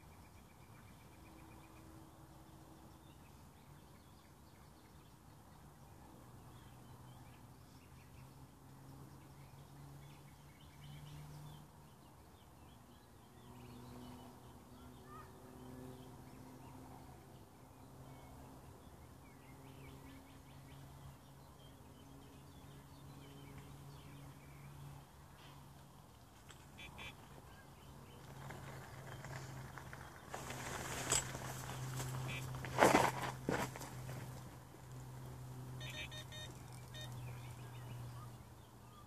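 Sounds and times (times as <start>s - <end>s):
distant birds chirping: 0.0s - 39.0s.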